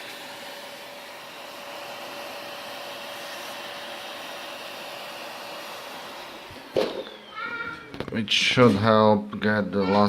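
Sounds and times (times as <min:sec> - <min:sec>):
vacuum cleaner running: 0:00.0 - 0:08.1.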